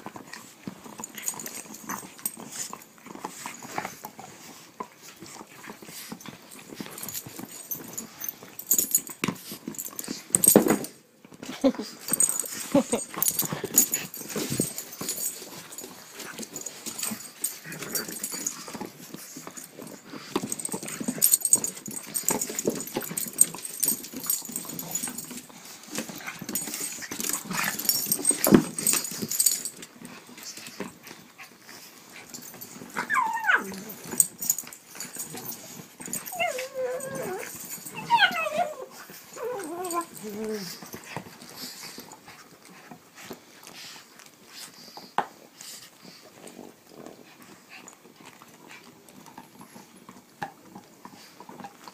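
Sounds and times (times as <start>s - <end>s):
puppies scuffling and rustling: 0.0s - 51.9s.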